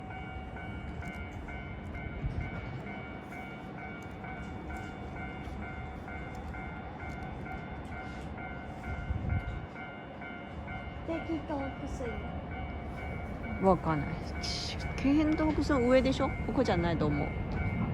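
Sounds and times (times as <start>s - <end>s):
level crossing alarm ringing: 0.0s - 17.9s
train rumbling: 0.0s - 17.9s.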